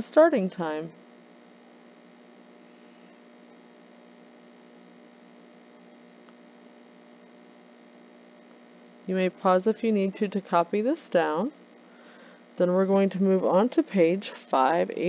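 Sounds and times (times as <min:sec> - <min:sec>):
faint electrical hum with hiss: 0:00.0 - 0:15.0.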